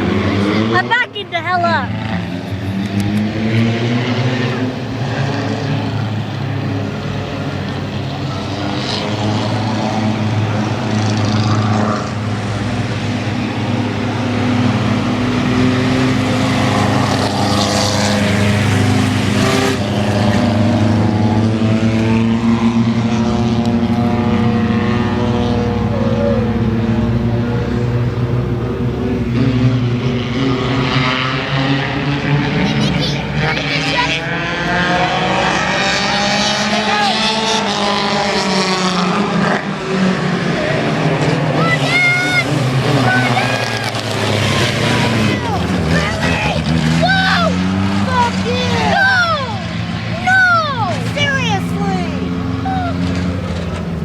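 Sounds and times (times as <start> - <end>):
mini truck engines revving: 0.0 - 54.0.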